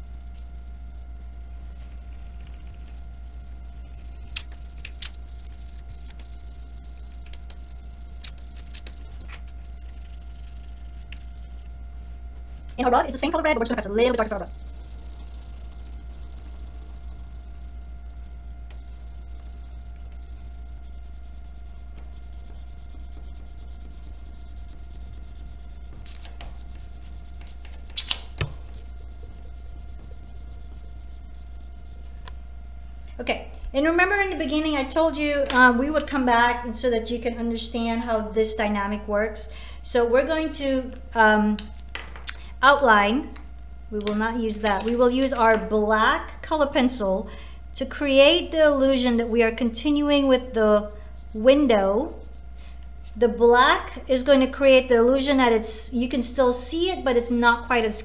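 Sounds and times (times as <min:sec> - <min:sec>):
wax crayon scratching on paper: 0:00.0 - 0:33.2, 0:33.8 - 0:39.0, 0:43.7 - 0:47.1, 0:48.0 - 0:58.0
steady low hum: 0:00.0 - 0:58.0.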